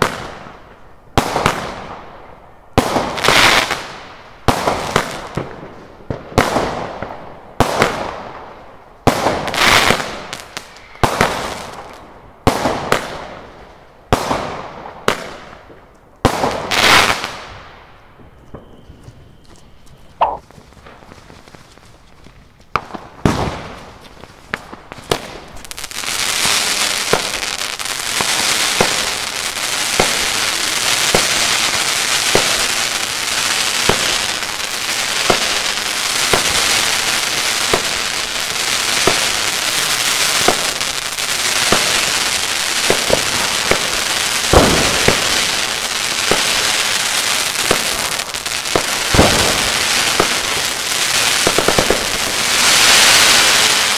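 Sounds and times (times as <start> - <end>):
fireworks bangs and pops: 0.0 - 2.2, 2.8 - 53.9
fireworks shots: 0.0 - 2.2, 2.8 - 21.8, 22.7 - 53.9
fireworks crackling hiss: 2.8 - 53.9.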